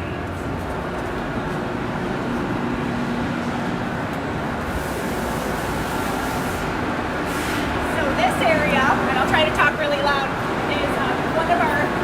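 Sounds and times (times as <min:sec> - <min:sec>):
machine shop din: 0:00.0 - 0:12.0.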